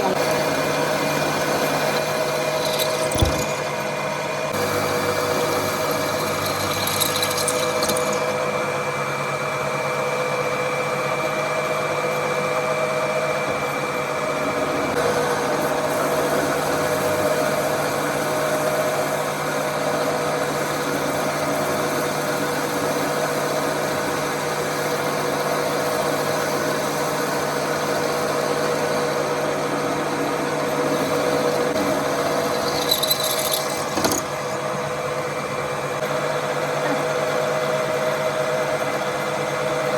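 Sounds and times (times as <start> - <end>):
workshop machine humming: 0.0 - 39.9.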